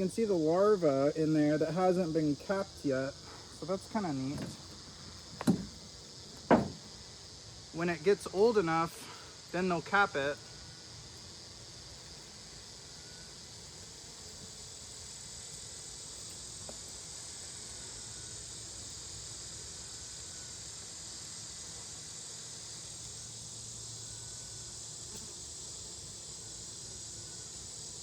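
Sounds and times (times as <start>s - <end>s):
honeybee hive buzzing: 0.0s - 8.6s, 10.4s - 28.0s.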